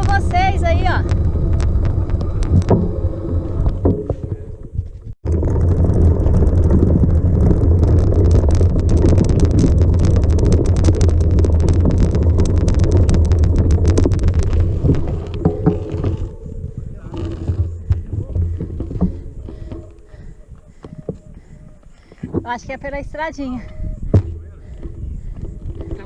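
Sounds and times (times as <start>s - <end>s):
vehicle rumbling on dirt track: 0.0s - 26.0s.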